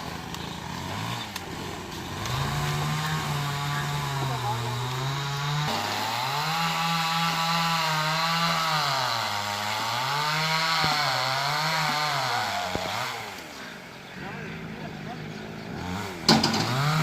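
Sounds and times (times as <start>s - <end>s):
chainsaw cutting wood: 0.0s - 13.8s, 15.7s - 17.0s.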